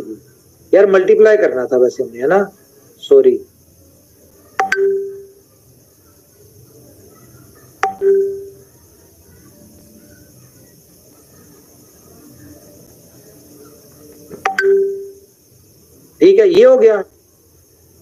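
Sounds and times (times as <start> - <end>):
faint background hiss: 0.0 - 18.0.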